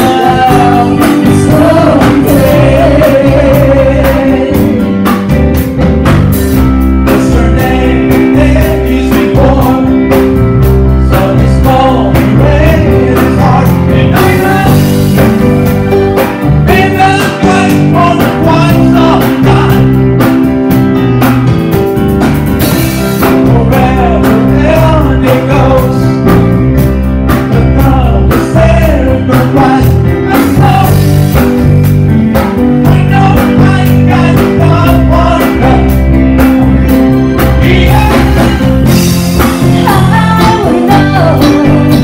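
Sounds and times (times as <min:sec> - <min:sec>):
man singing lead vocal: 0:00.0 - 0:05.3, 0:06.6 - 0:15.4, 0:16.5 - 0:20.3, 0:22.6 - 0:26.6, 0:27.3 - 0:42.0
drum kit beat: 0:00.0 - 0:42.0
electric guitar: 0:00.0 - 0:42.0.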